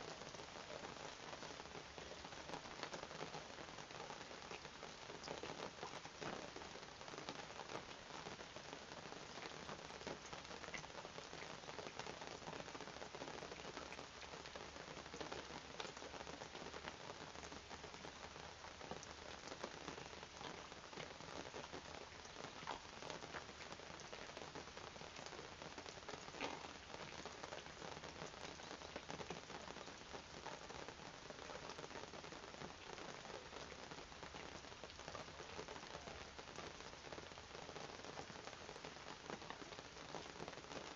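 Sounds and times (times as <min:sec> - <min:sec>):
raindrops ticking on surfaces: 0:00.0 - 0:40.9
steady rain falling: 0:00.0 - 0:40.9.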